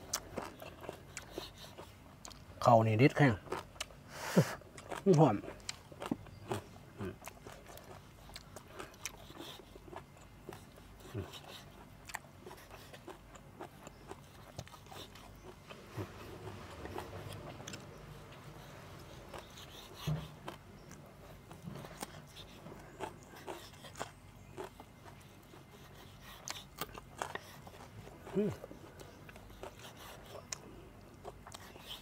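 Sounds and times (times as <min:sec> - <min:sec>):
person chewing with crunches: 0:00.0 - 0:32.0.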